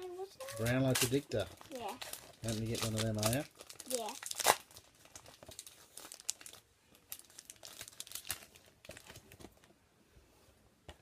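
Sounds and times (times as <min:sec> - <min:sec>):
foil wrappers crinkling and tearing: 0:00.4 - 0:09.7.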